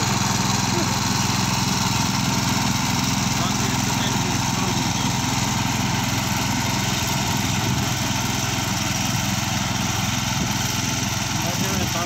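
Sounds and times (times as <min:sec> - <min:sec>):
rotary slasher cutting grass: 0:00.0 - 0:12.0
tractor engine running: 0:00.0 - 0:12.0.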